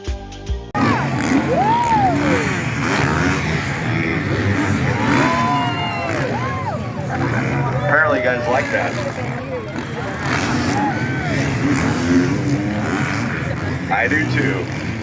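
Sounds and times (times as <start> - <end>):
dirt bike engines revving: 0.7 - 15.0.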